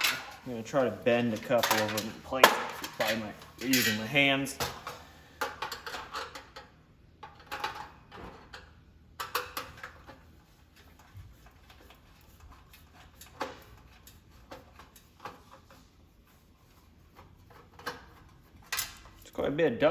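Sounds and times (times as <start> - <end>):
sheet metal clicks and scrapes: 0.0 - 10.2, 10.9 - 15.9, 17.1 - 19.3.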